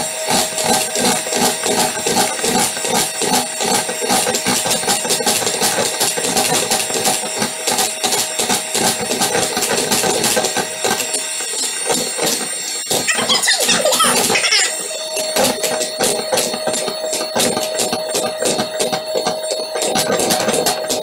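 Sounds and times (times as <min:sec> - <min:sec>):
beaters rattling against bowl: 0:00.0 - 0:21.0
electric hand mixer whining: 0:00.0 - 0:21.0.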